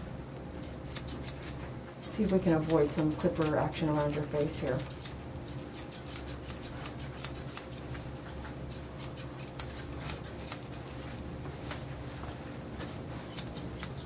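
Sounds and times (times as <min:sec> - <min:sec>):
shears snipping fur: 0:00.6 - 0:14.0.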